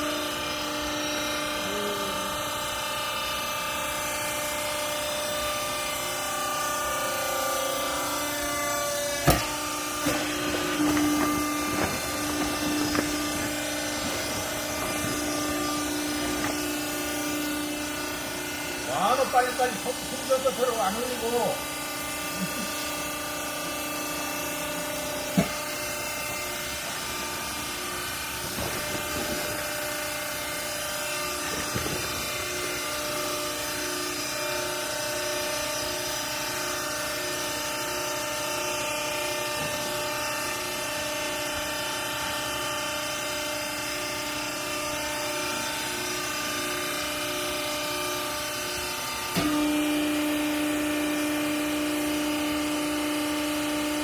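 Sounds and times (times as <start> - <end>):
motor and hydraulic pump humming: 0.0 - 54.0.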